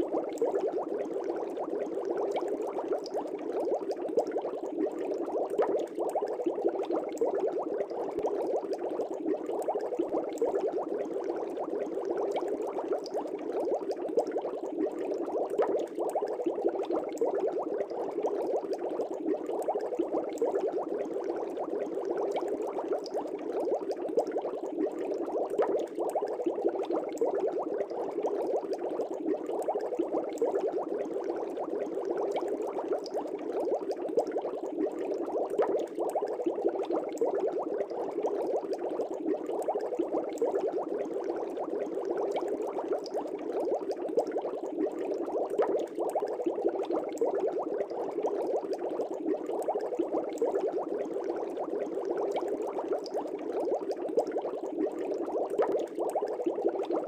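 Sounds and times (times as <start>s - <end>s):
aquarium air bubbles: 0.0s - 57.0s.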